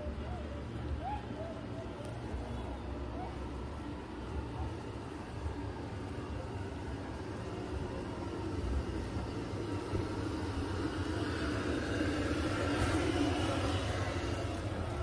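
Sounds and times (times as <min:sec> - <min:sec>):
street noise: 0:00.0 - 0:15.0
vehicle passing: 0:02.4 - 0:15.0.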